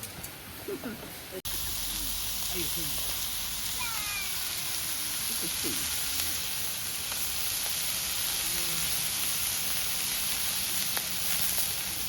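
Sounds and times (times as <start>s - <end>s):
campfire hissing: 0.6s - 12.0s
fire crackling pops: 1.5s - 12.0s.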